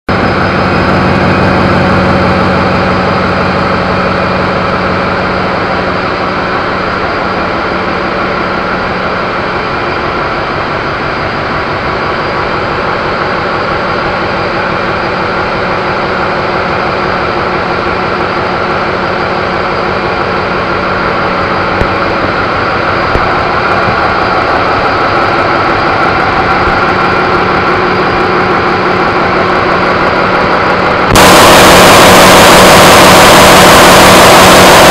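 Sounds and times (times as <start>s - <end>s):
engine room machinery drone: 0.1s - 34.9s.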